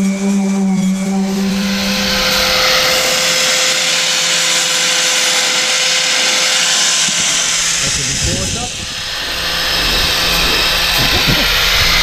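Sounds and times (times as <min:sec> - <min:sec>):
power tool motor whine: 0:00.8 - 0:12.0
tool rushing hiss on surface: 0:01.2 - 0:12.0.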